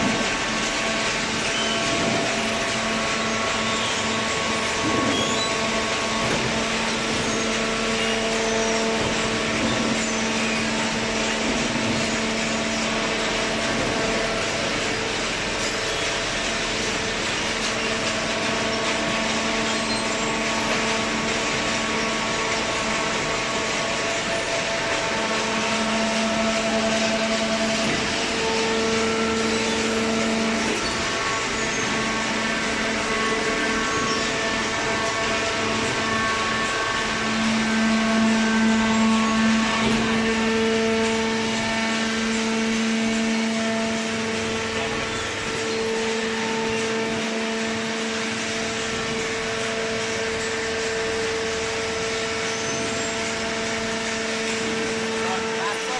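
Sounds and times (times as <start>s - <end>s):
baler machine hum with held tones: 0.0s - 55.9s.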